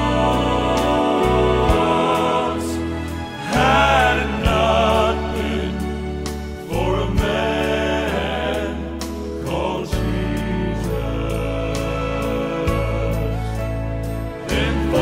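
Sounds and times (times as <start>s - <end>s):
men singing in harmony: 0.0s - 15.0s
piano accompaniment: 0.0s - 15.0s
sustained bass line: 0.0s - 15.0s.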